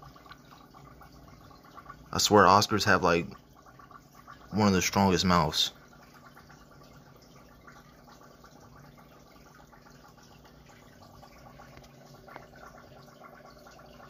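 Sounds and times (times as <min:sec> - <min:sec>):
aquarium water trickling: 0:00.0 - 0:14.0.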